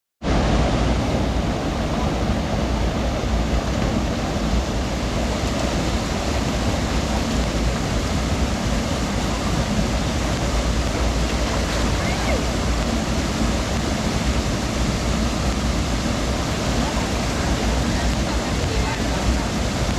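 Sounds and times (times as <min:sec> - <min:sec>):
river water pouring over falls: 0:00.3 - 0:19.9.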